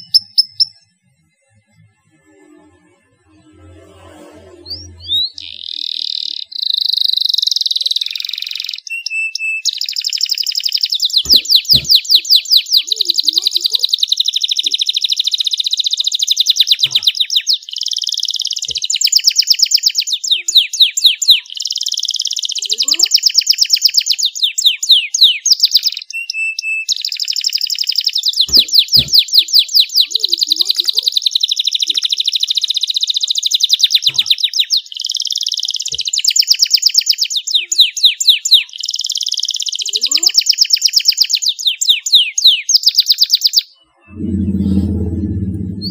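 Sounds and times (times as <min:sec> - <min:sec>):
canary singing trills: 0:00.0 - 0:01.0, 0:04.6 - 0:45.9.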